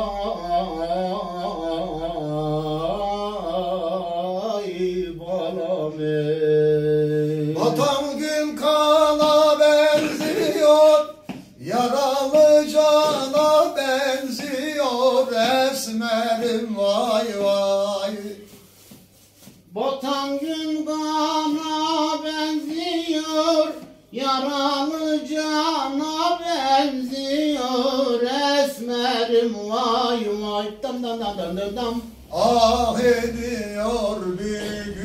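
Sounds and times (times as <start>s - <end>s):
man singing unaccompanied: 0.0s - 18.6s, 19.7s - 35.0s.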